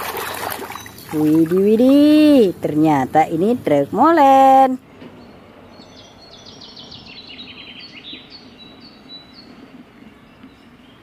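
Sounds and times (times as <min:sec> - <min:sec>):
faint steady background noise: 0:00.0 - 0:11.0
songbird chirping: 0:00.0 - 0:11.0.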